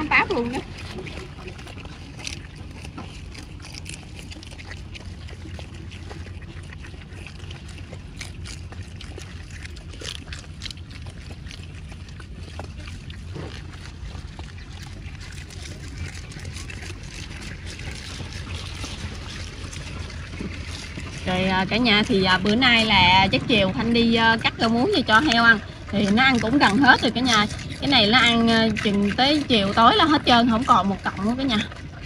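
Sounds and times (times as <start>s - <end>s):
leaf rustling: 0.0s - 31.8s
pigs chewing wet leaves: 0.0s - 32.0s
steady low hum: 0.0s - 32.0s.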